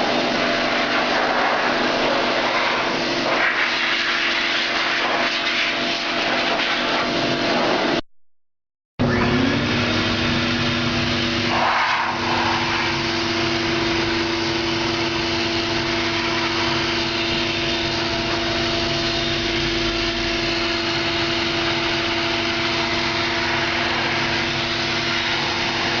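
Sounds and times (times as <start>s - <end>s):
air blower whining: 0.0s - 8.0s, 9.0s - 26.0s.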